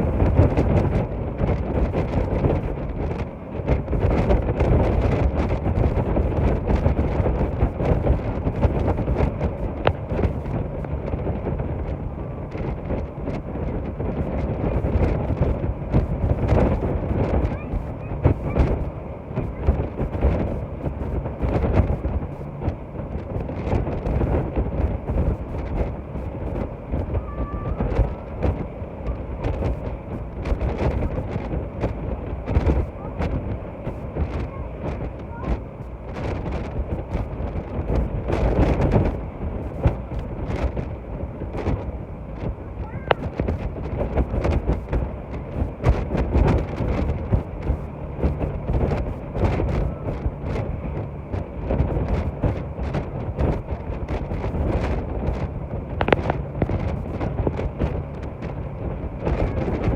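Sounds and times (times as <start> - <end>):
boat motor rushing: 0.0 - 59.9
water beneath boat: 0.0 - 59.9
wind buffeting microphone: 0.0 - 59.9.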